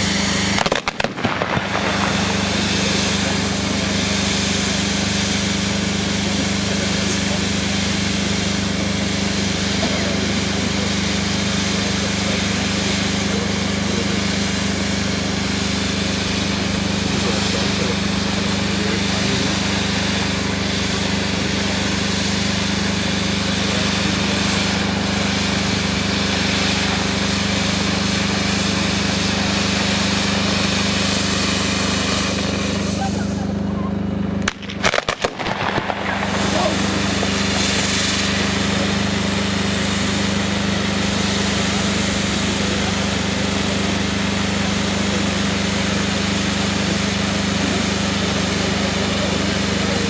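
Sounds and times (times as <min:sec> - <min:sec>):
fireworks rushing hiss: 0:00.0 - 0:50.0
steady low drone: 0:00.0 - 0:50.0.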